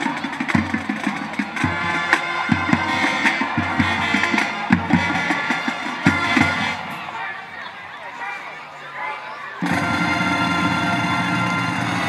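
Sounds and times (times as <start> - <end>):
marching band playing: 0.0 - 7.8, 9.6 - 12.0.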